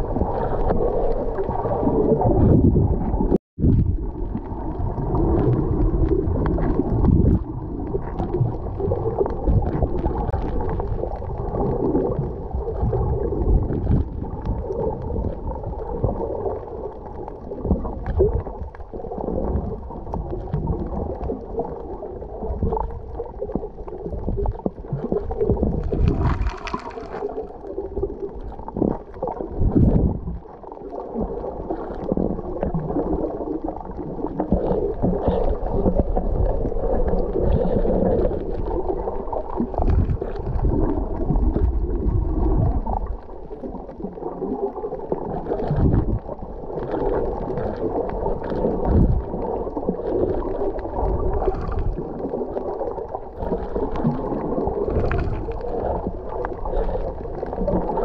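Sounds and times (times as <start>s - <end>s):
muffled underwater rushing: 0.0s - 58.0s.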